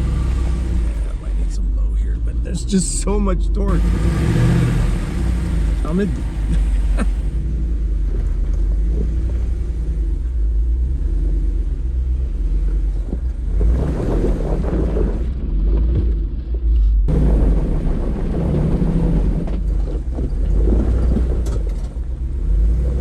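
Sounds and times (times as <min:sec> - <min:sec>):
tyres on rough terrain: 0:00.0 - 0:10.4, 0:12.4 - 0:23.0
off-road vehicle engine at low revs: 0:00.0 - 0:23.0.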